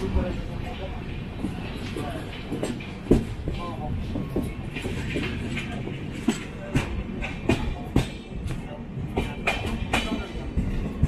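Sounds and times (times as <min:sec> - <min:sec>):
train rumble: 0:00.0 - 0:11.0
wheels clacking over rail joints: 0:00.0 - 0:11.0.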